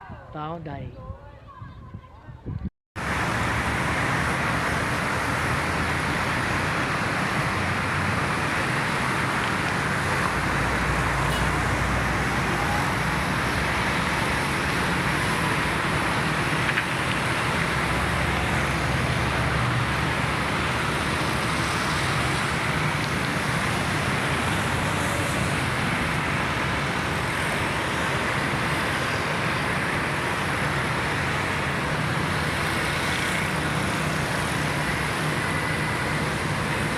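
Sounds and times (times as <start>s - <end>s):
road traffic hiss and rumble: 0.0s - 36.9s.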